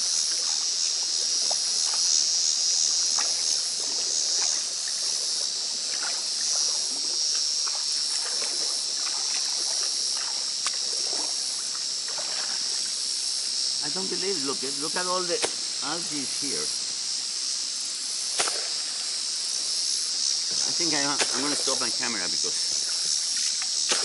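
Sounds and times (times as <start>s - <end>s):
water splashing and trickling: 0.0s - 16.6s, 20.3s - 24.0s
insect chorus: 0.0s - 24.0s.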